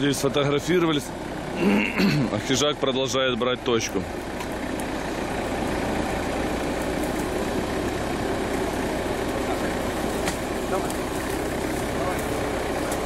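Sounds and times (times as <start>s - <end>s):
truck engine at low revs: 0.0s - 13.0s.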